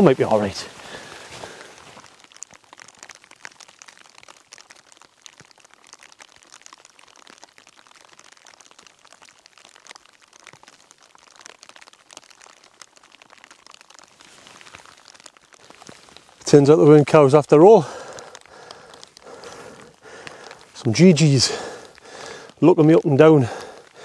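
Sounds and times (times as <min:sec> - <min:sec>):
rain drops pattering: 0:00.0 - 0:24.0.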